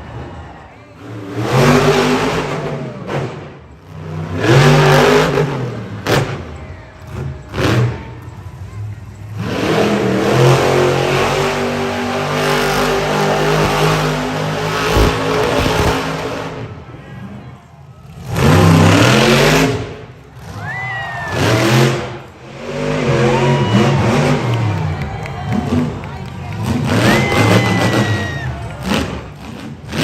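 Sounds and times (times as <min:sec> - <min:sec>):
truck engine revving: 0:00.0 - 0:17.0, 0:18.0 - 0:30.0.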